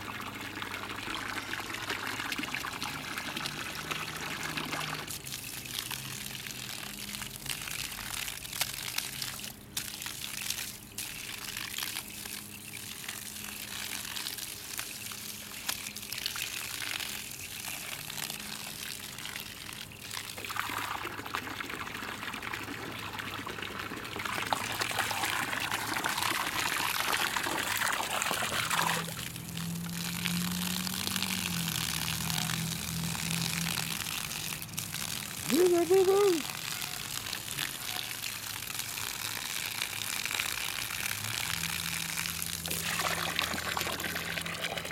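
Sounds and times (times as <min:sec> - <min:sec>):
hose water splashing on grass: 0:00.0 - 0:44.9.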